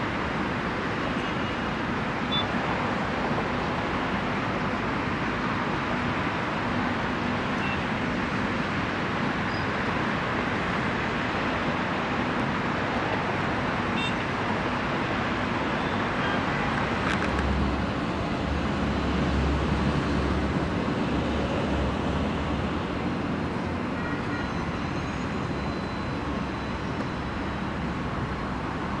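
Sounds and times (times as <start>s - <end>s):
distant city traffic hum: 0.0s - 29.0s.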